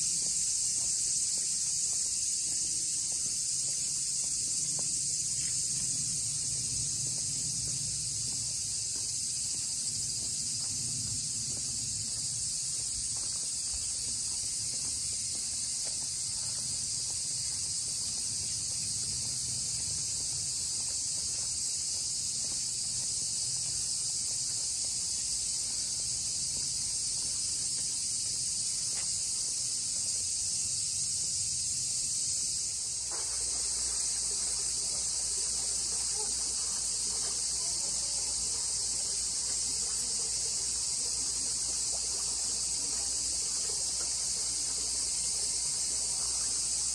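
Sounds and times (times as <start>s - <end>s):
insect chorus buzzing: 0.0s - 46.9s.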